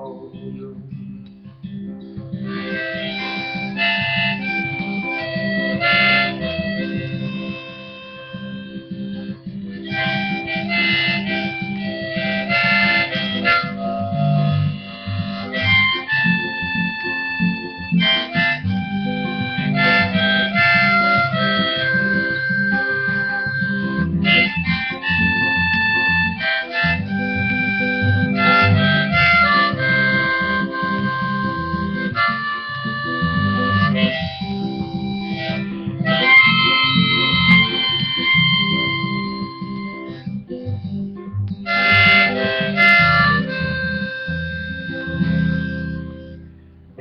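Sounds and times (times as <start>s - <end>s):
acoustic guitar strumming: 0.0s - 47.0s
harmonica: 2.3s - 47.0s.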